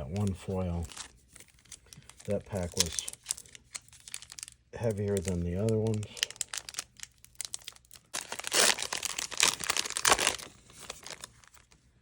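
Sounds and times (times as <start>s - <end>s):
foil wrapper tearing and crinkling: 0.1s - 11.8s.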